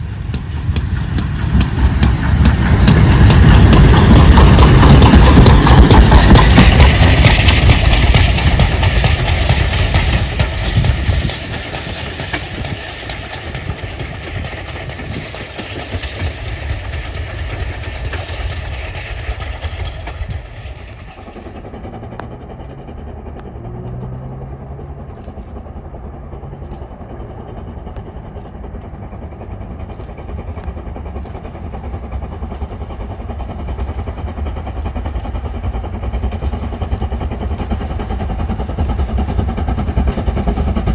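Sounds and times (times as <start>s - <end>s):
train passing close: 0.0s - 40.9s.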